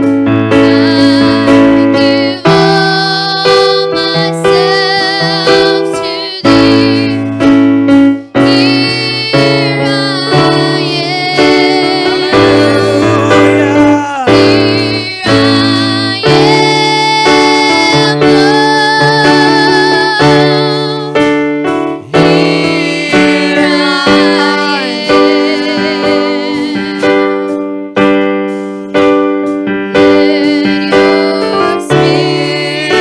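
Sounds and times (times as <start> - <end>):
electric keyboard chords: 0.0 - 33.0
person singing: 0.5 - 7.5, 8.2 - 27.7, 29.9 - 33.0.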